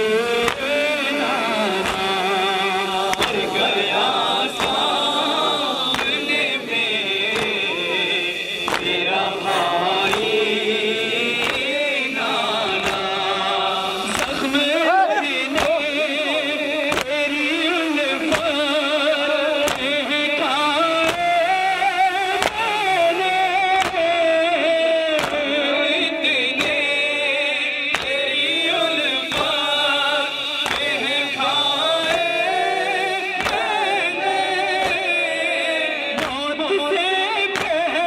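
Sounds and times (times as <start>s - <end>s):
men singing a lament: 0.0s - 38.0s
voices chanting along: 0.0s - 38.0s.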